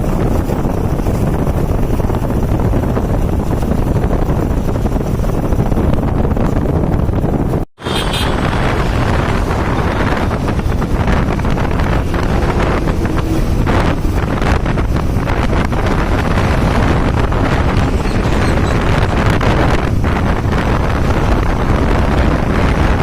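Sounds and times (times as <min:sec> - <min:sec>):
vehicle rumble: 0:00.0 - 0:23.0
wind buffeting microphone: 0:00.0 - 0:23.0.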